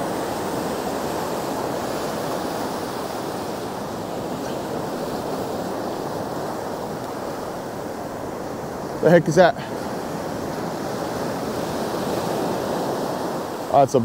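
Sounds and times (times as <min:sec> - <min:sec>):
ocean waves breaking on sand: 0:00.0 - 0:14.0.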